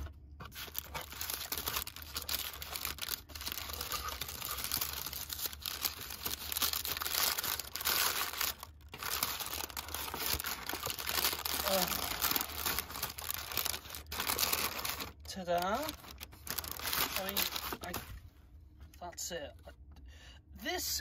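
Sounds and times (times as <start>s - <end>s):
paper crinkling and crackling: 0.0s - 18.3s.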